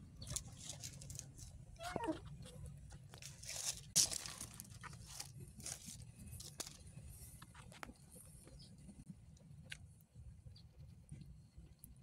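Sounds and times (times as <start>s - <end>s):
kitten crunching fried chicken: 0.0s - 10.0s.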